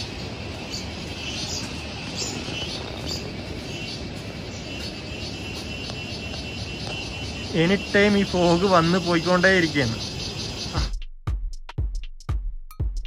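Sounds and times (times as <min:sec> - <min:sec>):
distant river rushing: 0:00.0 - 0:10.8.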